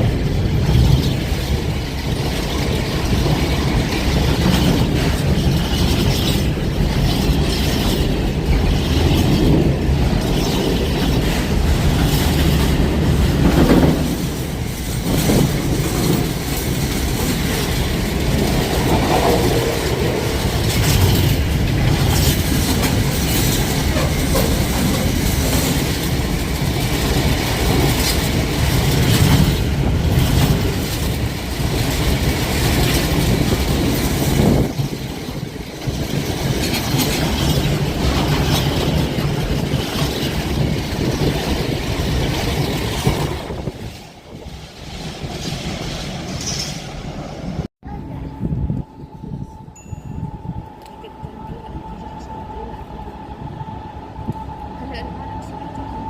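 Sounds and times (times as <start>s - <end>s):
train wheels clattering on rails: 0.0s - 47.7s.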